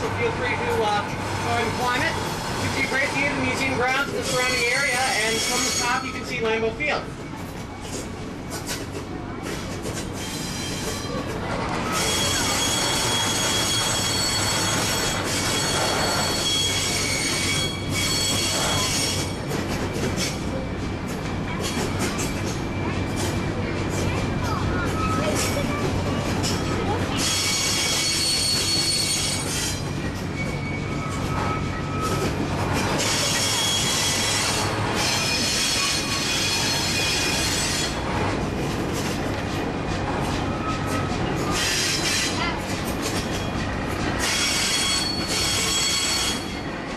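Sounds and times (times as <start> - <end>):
rumble of moving train cars: 0.0 - 46.9
train wheels squealing on rails: 0.6 - 6.5, 7.8 - 46.9.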